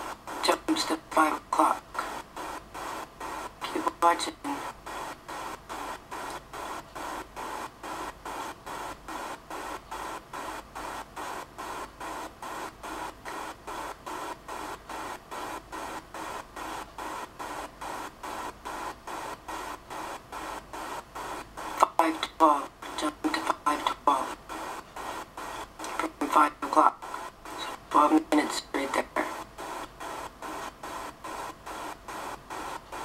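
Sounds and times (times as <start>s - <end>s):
rhythmic pulsing hiss: 0.0s - 33.0s.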